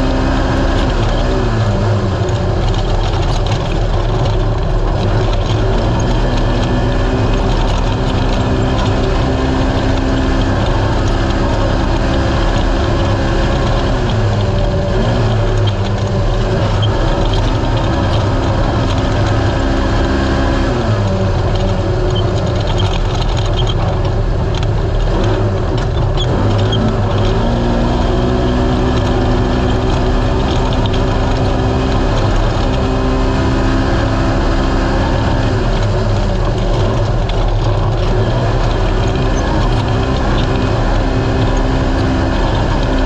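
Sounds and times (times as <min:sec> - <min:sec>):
engine revving at high revs: 0:00.0 - 0:43.0
knocks and rattles: 0:00.0 - 0:43.0.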